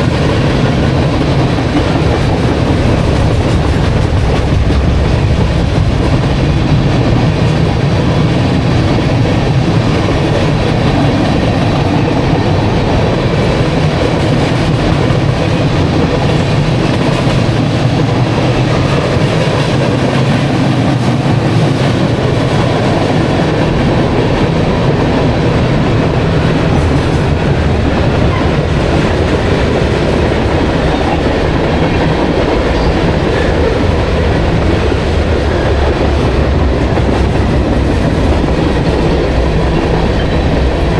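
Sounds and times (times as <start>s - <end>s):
freight train rumbling past: 0.0s - 40.9s.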